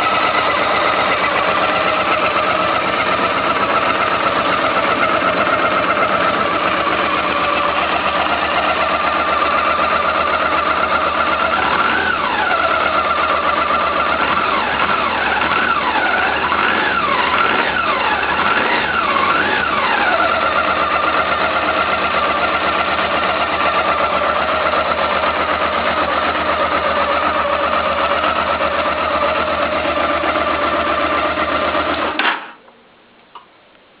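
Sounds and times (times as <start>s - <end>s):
motorcycle engine idling and revving: 0.0s - 32.5s.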